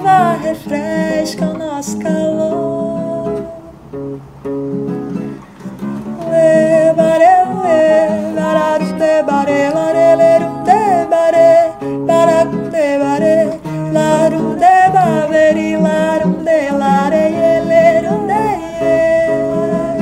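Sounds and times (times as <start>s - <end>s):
person singing without words: 0.0s - 3.8s, 6.0s - 20.0s
acoustic guitar accompaniment: 0.0s - 20.0s.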